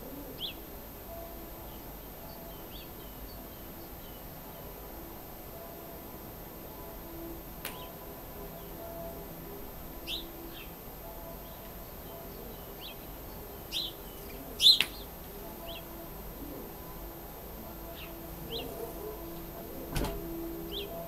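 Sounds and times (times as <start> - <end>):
faint low hum: 0.0 - 21.0
songbirds chirping: 0.0 - 21.0.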